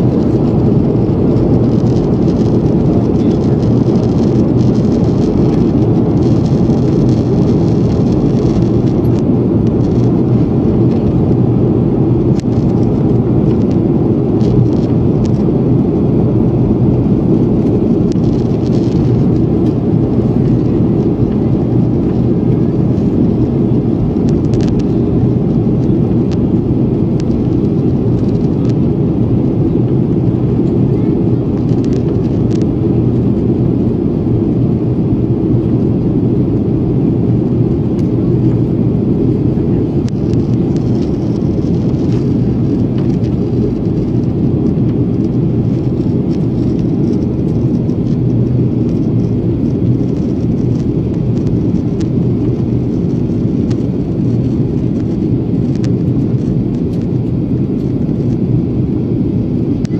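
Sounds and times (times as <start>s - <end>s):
jet engines and airflow rushing: 0.0s - 59.9s.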